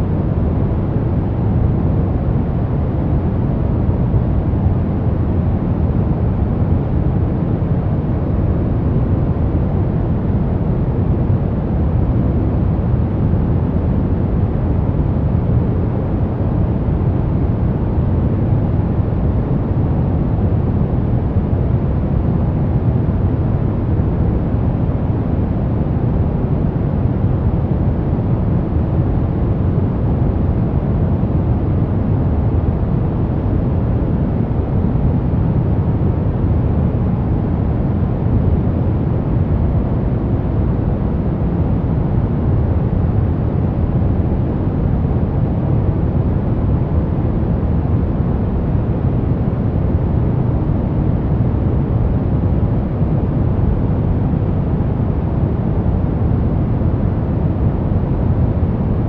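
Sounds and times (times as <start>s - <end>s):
low white noise: 0.0s - 59.0s.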